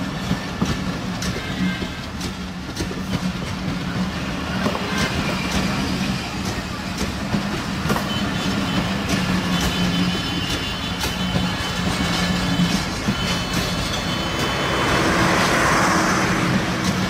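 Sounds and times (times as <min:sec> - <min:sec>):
low hum of train: 0:00.0 - 0:17.0.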